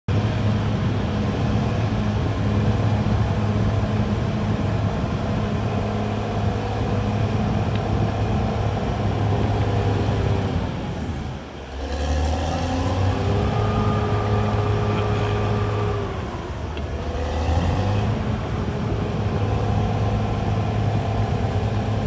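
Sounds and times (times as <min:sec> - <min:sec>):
bulldozer diesel engine running: 0:00.1 - 0:22.0.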